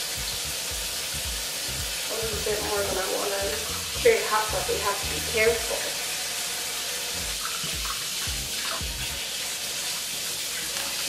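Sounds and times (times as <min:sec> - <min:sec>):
faucet water running into sink: 0:00.0 - 0:11.0.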